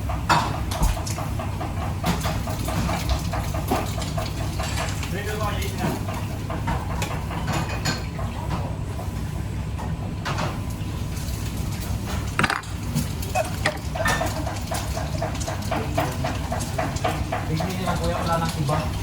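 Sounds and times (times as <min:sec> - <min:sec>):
pans and dishes clattering: 0:00.1 - 0:08.8, 0:12.0 - 0:19.0.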